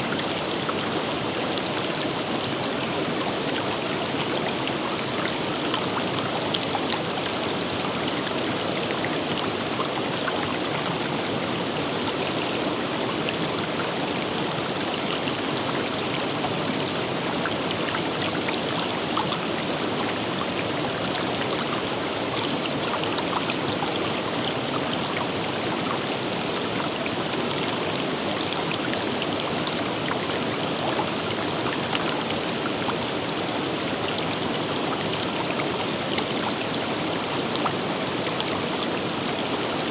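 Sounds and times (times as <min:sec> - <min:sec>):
water splashes and trickles: 0:00.0 - 0:39.9.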